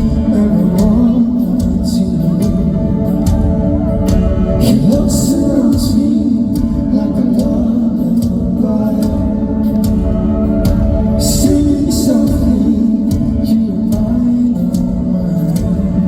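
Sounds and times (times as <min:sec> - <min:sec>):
guitar: 0:00.0 - 0:16.0
keyboard: 0:00.0 - 0:16.0
person singing: 0:00.0 - 0:16.0.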